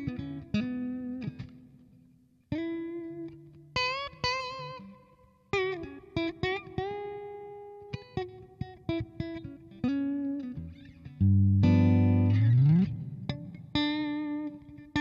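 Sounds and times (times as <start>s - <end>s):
electric guitar notes and chord: 0.0s - 1.8s, 2.5s - 15.0s.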